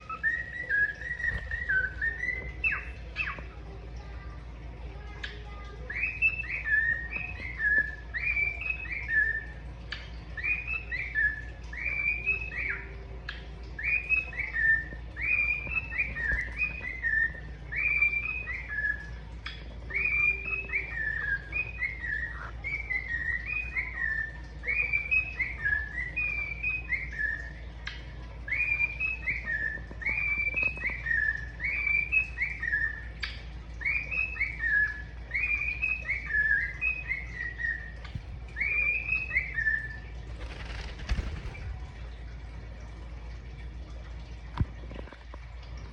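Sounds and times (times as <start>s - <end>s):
cockatiel whistling a song: 0.0s - 3.5s, 5.9s - 41.6s.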